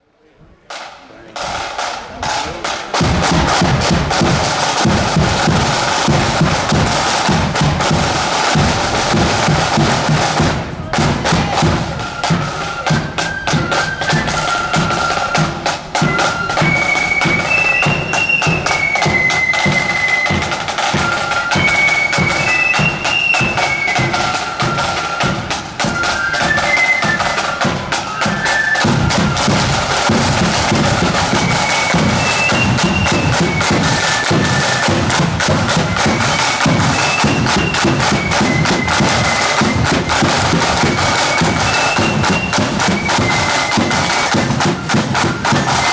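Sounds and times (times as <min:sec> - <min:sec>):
marching band wind melody: 0:00.5 - 0:45.9
rapid snare drumming: 0:00.7 - 0:45.9.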